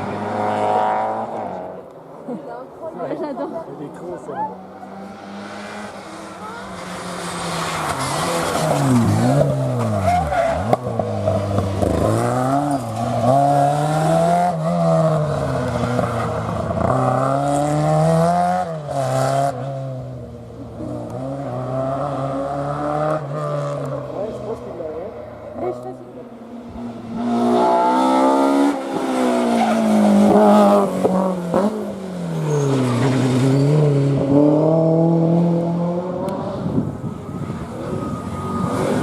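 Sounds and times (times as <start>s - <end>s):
rally car engine revving: 0.0s - 1.9s, 4.5s - 39.0s.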